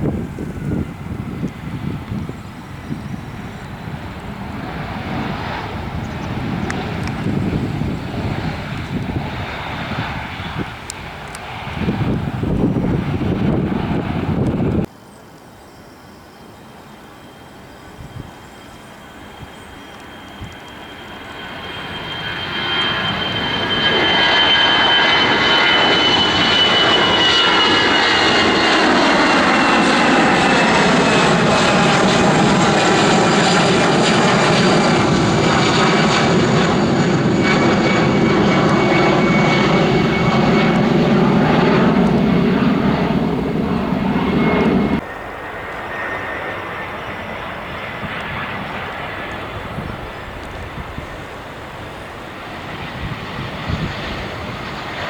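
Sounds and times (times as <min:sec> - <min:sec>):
distant aircraft noise: 0:00.0 - 0:55.0
jet airliner passing with whine: 0:00.0 - 0:55.0.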